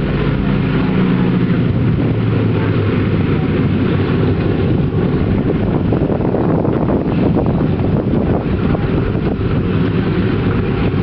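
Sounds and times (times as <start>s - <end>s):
radial aircraft engines running: 0.0s - 11.0s.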